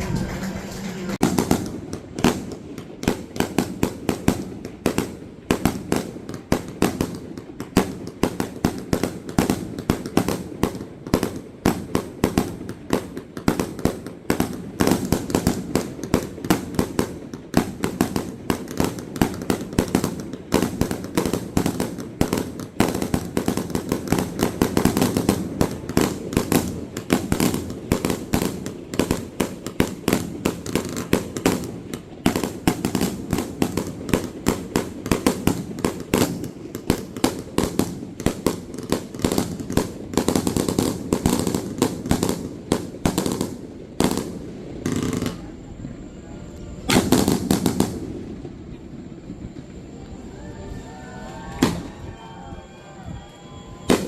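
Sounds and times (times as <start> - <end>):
fireworks bangs and booms: 0.0 - 54.0.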